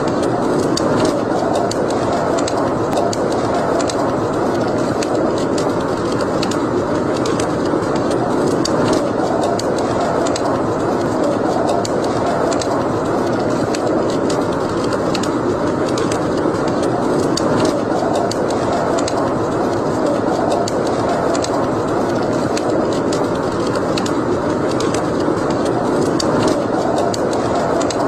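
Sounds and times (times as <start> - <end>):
fire crackling and popping: 0.0 - 28.0
rush of fire flames: 0.0 - 28.0.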